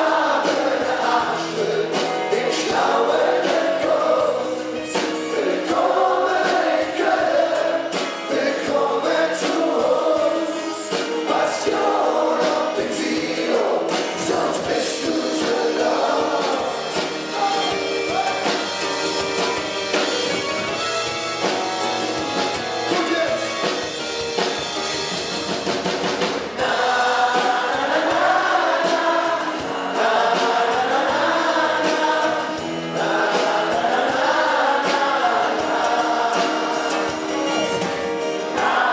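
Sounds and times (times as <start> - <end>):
group of voices singing: 0.0 - 18.8, 26.4 - 38.9
live band playing: 0.0 - 38.9.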